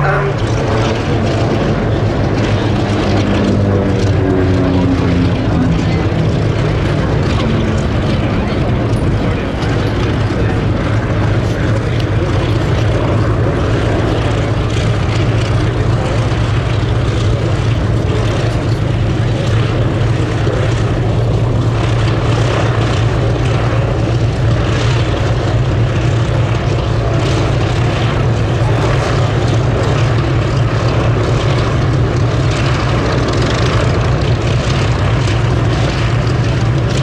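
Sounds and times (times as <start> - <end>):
propeller planes droning overhead: 0.0 - 37.0.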